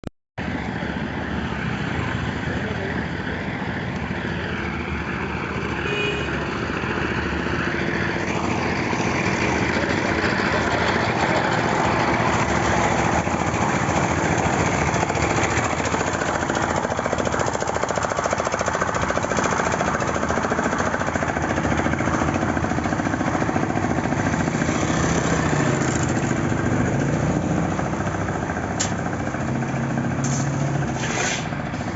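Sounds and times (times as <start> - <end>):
tractor diesel engine running: 0.7 - 31.9.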